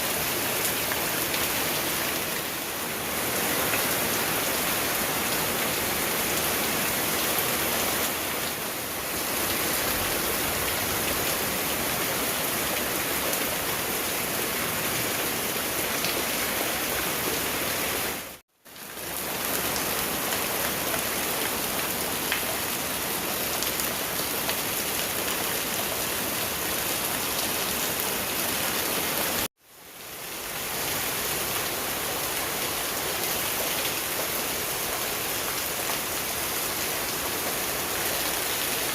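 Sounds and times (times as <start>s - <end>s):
heavy rain pouring: 0.0s - 29.5s, 30.1s - 38.9s.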